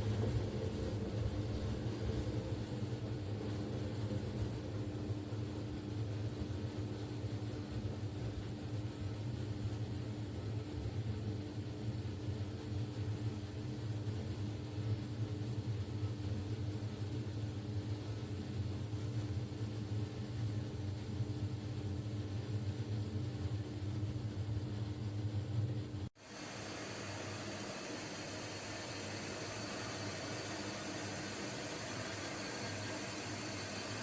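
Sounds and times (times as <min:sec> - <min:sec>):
mechanical hum and rumble: 0:00.0 - 0:34.0.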